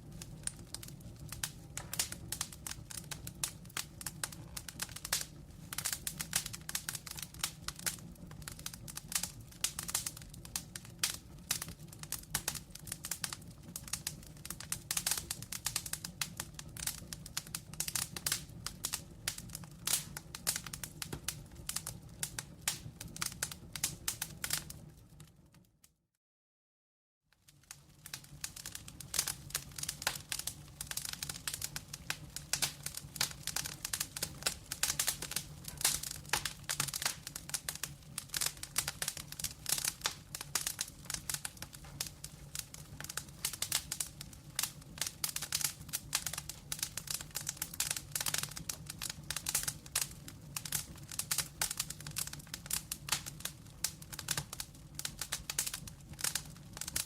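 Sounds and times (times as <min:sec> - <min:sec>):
wood fire crackling: 0:00.0 - 0:25.8, 0:27.4 - 0:57.0.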